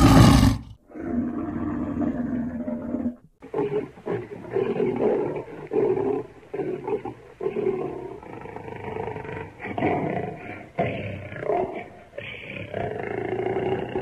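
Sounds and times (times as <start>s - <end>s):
lion roaring: 0.0s - 14.0s.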